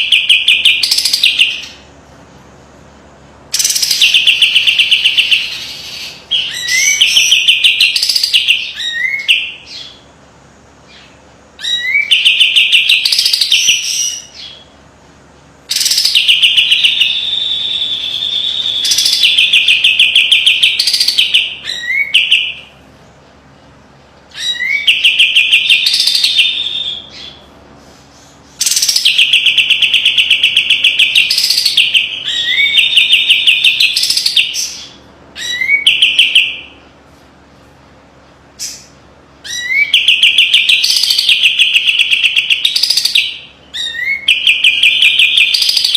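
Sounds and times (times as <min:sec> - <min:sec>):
bird singing rapid trills: 0:00.0 - 0:01.9, 0:03.5 - 0:10.1, 0:10.8 - 0:14.8, 0:15.7 - 0:22.7, 0:24.3 - 0:27.5, 0:28.6 - 0:36.8, 0:38.6 - 0:45.9.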